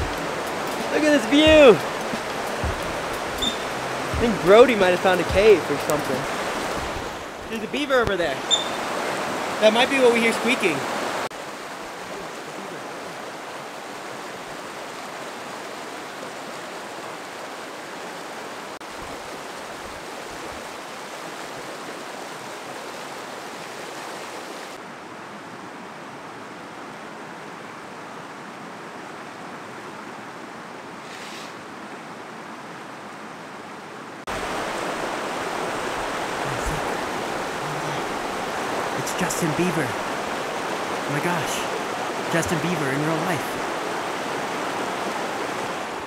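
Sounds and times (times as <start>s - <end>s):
stream water rushing: 0.0s - 46.0s.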